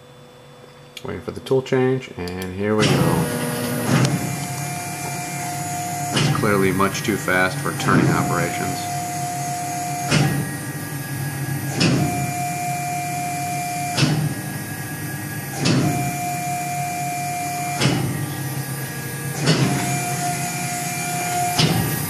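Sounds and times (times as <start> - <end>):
stepper motors whining: 2.8 - 22.0.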